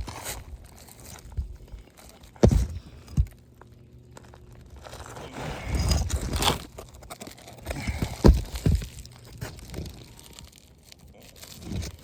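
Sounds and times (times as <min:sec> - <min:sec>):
shingles scraping and crunching: 0:00.0 - 0:12.0.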